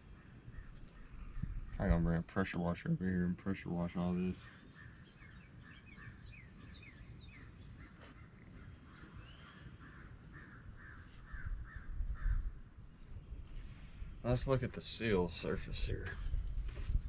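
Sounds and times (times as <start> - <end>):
birds harsh calls: 0.0 - 17.0.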